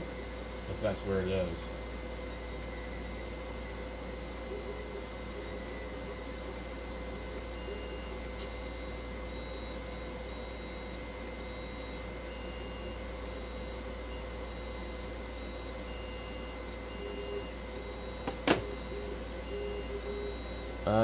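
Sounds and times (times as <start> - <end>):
printer motors whining: 0.0 - 21.0
steady hum: 0.0 - 21.0.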